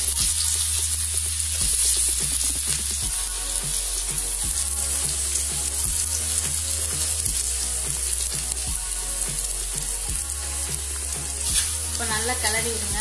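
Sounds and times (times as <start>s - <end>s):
background music: 0.0s - 13.0s
onions sizzling in hot oil: 0.0s - 13.0s.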